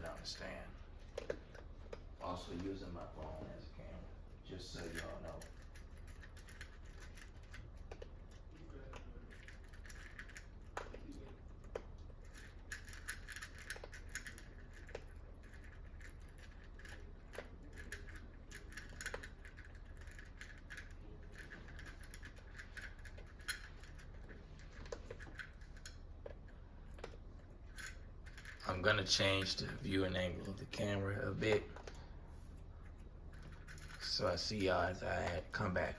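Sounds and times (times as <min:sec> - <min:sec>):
dog chewing food: 0:00.0 - 0:35.9.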